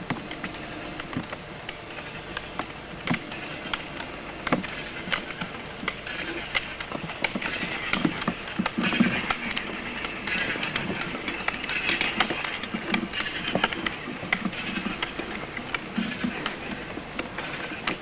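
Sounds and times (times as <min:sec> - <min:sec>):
roller skis rolling on gravel: 0:03.2 - 0:18.0.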